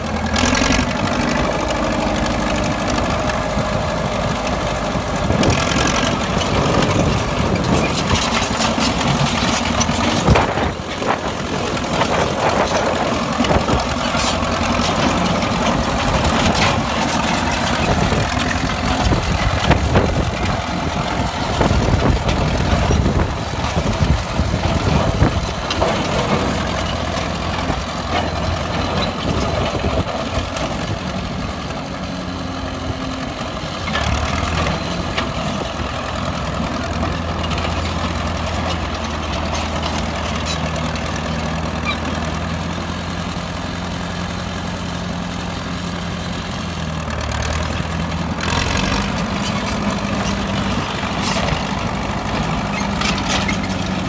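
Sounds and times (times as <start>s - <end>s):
clanks and knocks of tracks: 0.0s - 54.0s
crawler loader engine running: 0.0s - 54.0s.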